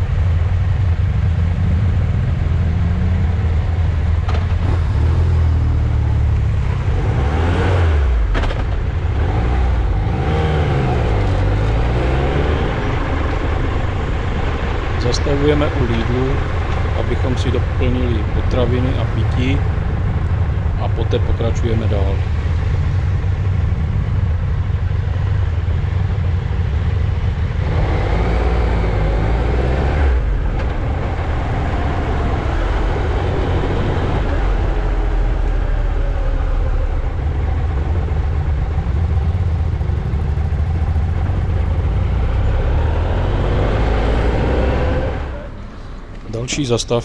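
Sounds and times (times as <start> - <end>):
wind rumble on microphone: 0.0 - 42.1
motorcycle engine accelerating: 0.0 - 46.6.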